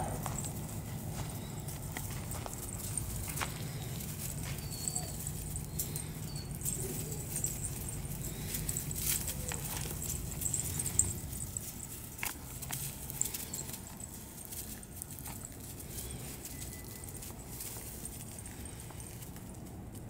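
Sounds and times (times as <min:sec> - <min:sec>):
paws crunching through dry leaves: 0:00.0 - 0:19.9.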